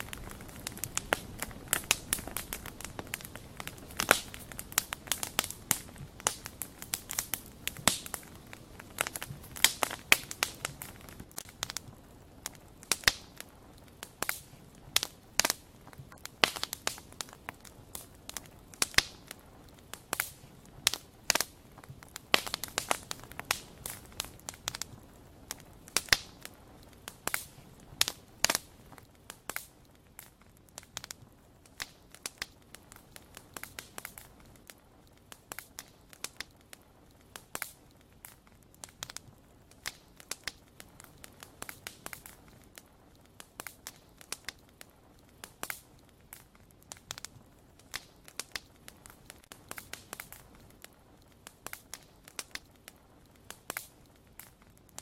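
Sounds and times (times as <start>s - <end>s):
faint hiss: 0.0s - 55.0s
wood fire crackling: 0.0s - 55.0s.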